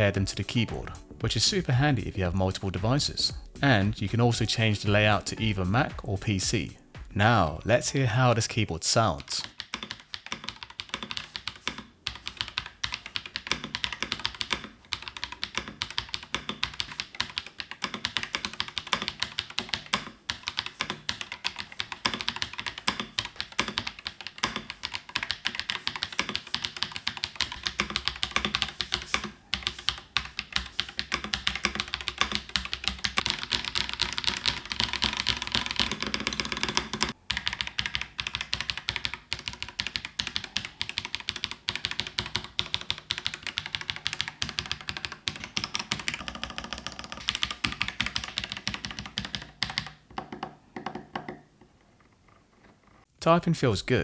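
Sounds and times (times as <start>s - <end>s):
mechanical keyboard typing: 9.0s - 53.0s.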